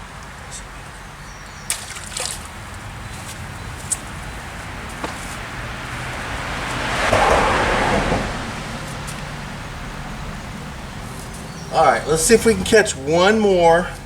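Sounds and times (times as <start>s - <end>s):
car passing by: 0.0s - 14.0s.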